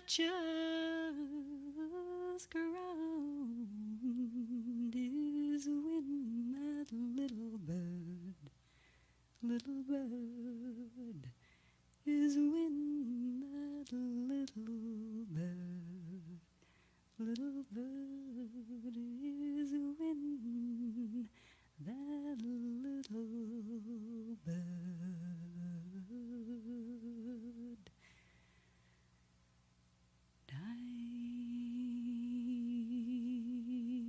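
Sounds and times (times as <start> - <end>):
person humming a slow melody: 0.0 - 8.5, 9.4 - 11.4, 12.1 - 16.5, 17.2 - 27.9, 30.5 - 34.0.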